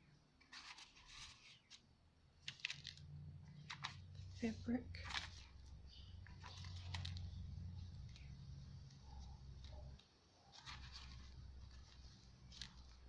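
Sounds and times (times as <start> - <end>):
low steady hum: 0.0 - 13.0
paper pages rustling: 0.4 - 13.0.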